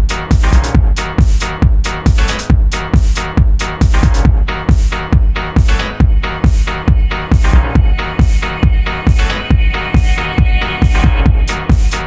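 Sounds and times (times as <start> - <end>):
synth and percussion layers: 0.0 - 12.0
techno kick drum: 0.0 - 12.0.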